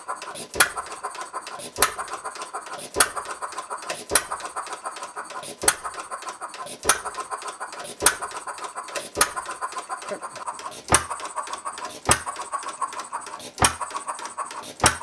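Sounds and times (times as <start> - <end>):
engine parts clicking: 0.0 - 15.0.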